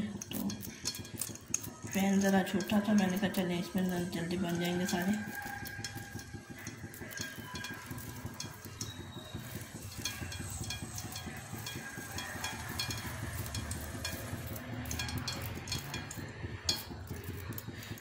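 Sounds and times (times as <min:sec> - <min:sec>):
oil sizzling in a wok: 0:00.0 - 0:18.0
small crackles and pops: 0:00.0 - 0:18.0.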